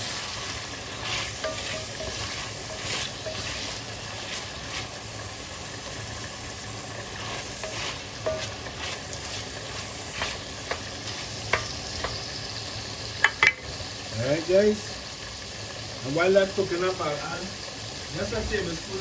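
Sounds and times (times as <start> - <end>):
oil sizzling in a pot: 0.0 - 19.0.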